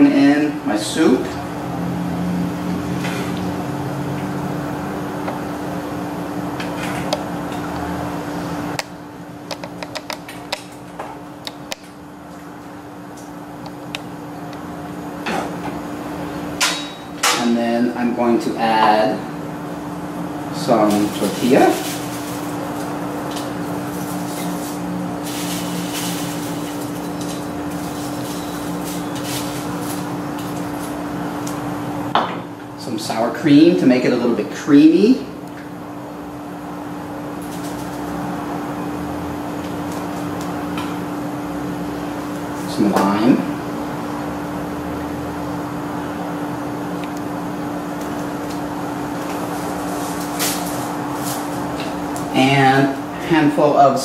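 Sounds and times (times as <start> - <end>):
range-hood fan humming: 0.0 - 54.0.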